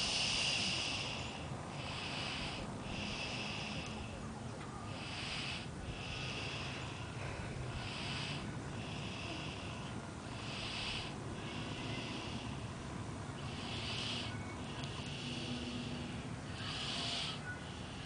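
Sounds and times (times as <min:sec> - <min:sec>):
toddler snoring: 0:00.0 - 0:12.8, 0:13.4 - 0:18.0.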